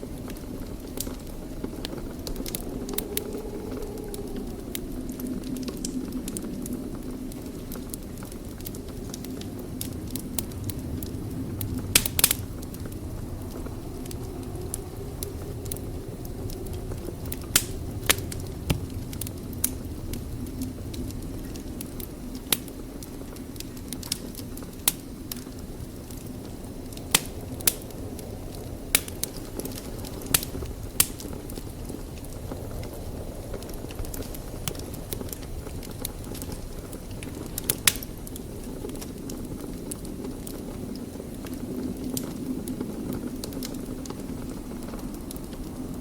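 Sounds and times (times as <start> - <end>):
low rush of flames: 0.0 - 46.0
wood fire crackling: 0.0 - 46.0.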